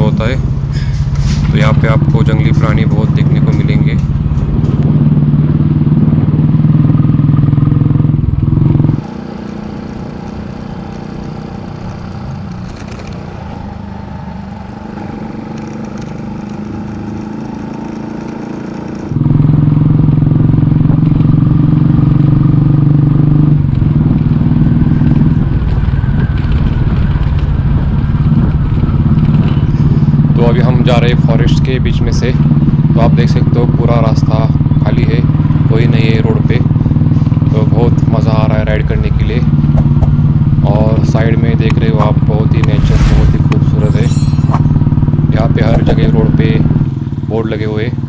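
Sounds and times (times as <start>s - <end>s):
motorcycle engine running: 0.0s - 48.0s
road noise: 0.0s - 48.0s.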